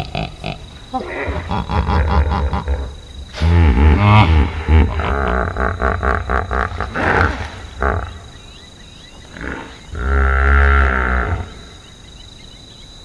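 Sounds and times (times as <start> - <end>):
hippopotamus grunting and honking: 0.0 - 8.6, 9.2 - 11.8
thin steady insect tone: 0.0 - 13.0.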